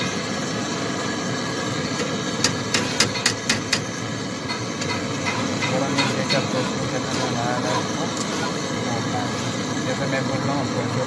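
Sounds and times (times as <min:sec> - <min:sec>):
brazing torch flame hissing: 0:00.0 - 0:11.0.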